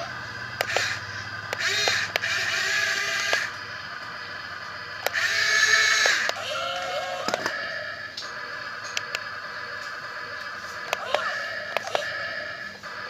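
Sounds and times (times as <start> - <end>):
sharp mechanical clicks: 0.0 - 13.0
small electric motors whirring: 0.0 - 13.0.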